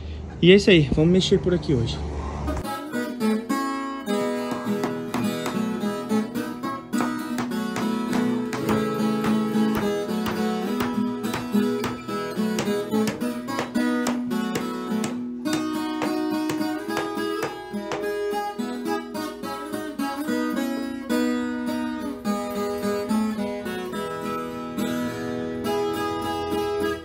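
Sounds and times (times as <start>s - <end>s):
acoustic guitar picked and strummed: 2.6s - 27.0s.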